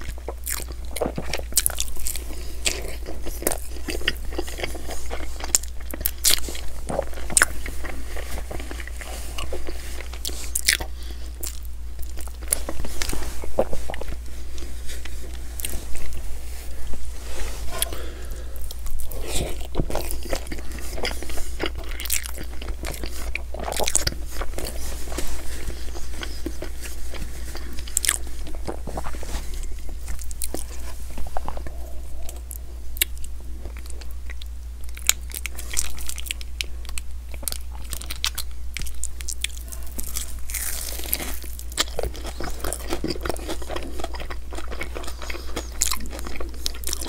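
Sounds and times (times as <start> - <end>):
chewing with mouth clicks: 0.0 - 14.3, 17.8 - 47.0.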